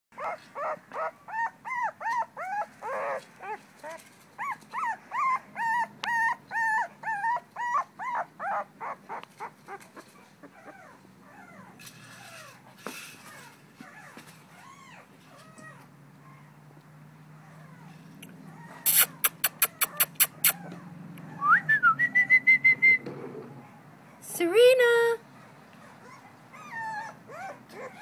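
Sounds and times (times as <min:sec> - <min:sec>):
puppy whimpering: 0:00.2 - 0:12.6, 0:13.2 - 0:16.6, 0:17.4 - 0:23.0, 0:25.8 - 0:28.0
rustle: 0:00.2 - 0:21.4, 0:23.0 - 0:28.0.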